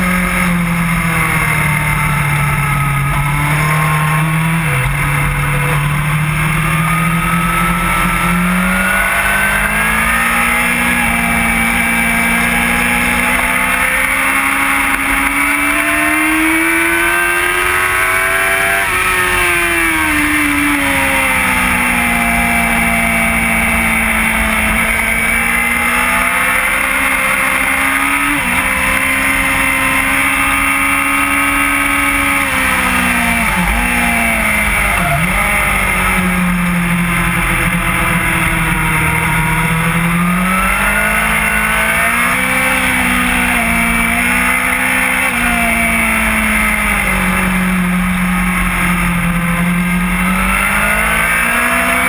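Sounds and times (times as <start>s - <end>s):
motorcycle engine at speed: 0.0s - 52.0s.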